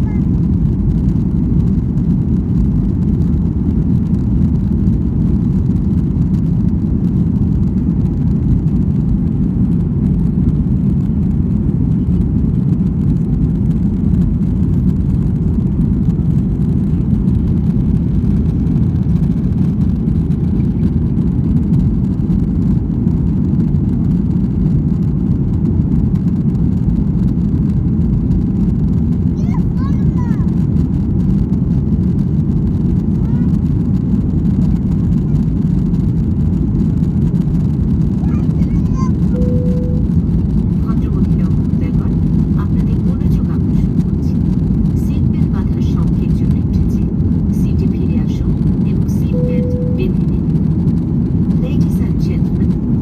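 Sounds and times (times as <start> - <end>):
jet engine rumble in cabin: 0.0 - 53.0.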